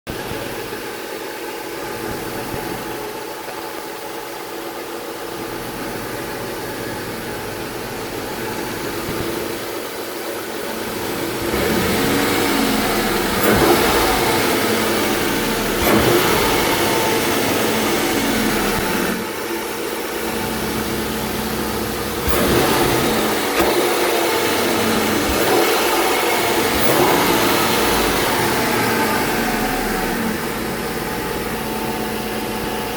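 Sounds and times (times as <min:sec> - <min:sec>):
car engine idling and revving: 0:00.1 - 0:32.9.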